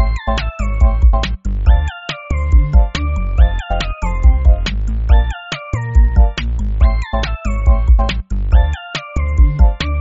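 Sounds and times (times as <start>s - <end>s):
electronic music with synth melody: 0.0s - 10.0s.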